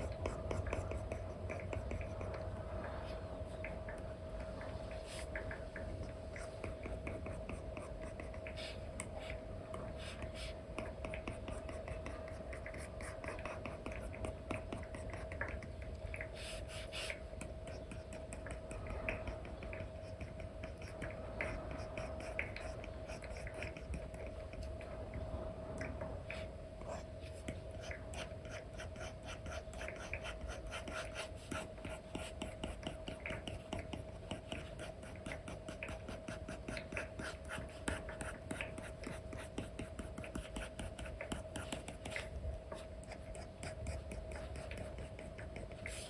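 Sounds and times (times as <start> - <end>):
stylus scratching and tapping screen: 0.0 - 25.0, 25.8 - 46.0
faint hum: 0.0 - 46.0.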